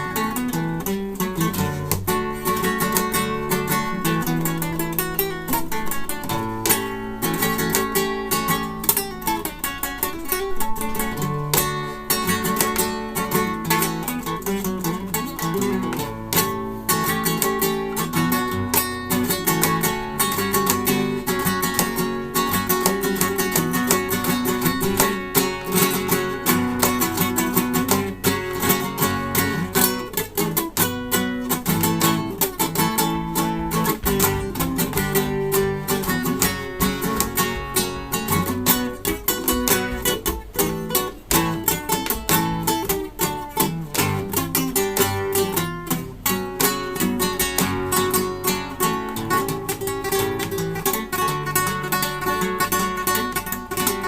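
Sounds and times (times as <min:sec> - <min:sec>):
acoustic guitar playing: 0:00.0 - 0:54.0.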